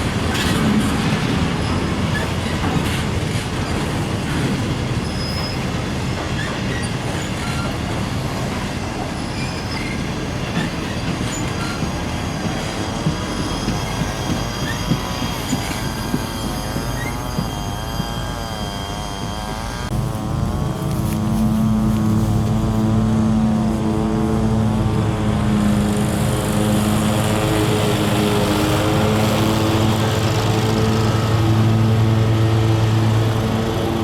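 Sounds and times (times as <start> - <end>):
rail wheels squealing: 0.0 - 34.0
train engine drone: 0.0 - 34.0.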